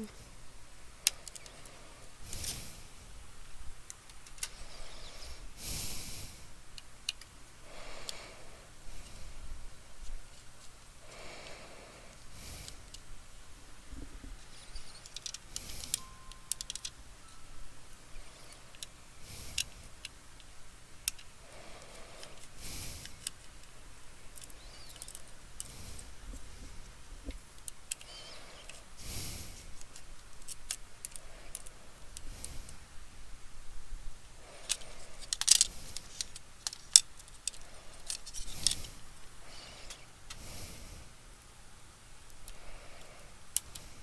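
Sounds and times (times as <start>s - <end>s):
soft breathing: 0.0s - 3.4s, 4.1s - 6.6s, 7.6s - 33.6s, 34.3s - 41.3s, 42.3s - 44.0s.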